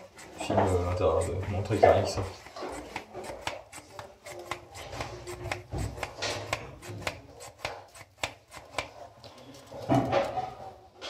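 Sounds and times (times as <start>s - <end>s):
plastic hand pump clicking: 0.0s - 8.9s.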